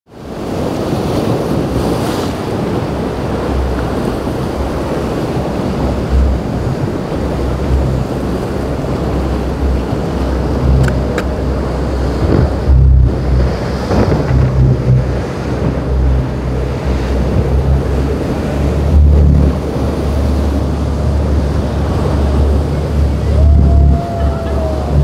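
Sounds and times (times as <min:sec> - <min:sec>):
boat engines droning: 0:00.1 - 0:25.0
water crashing against hull: 0:00.2 - 0:25.0
wind buffeting microphone: 0:00.2 - 0:25.0.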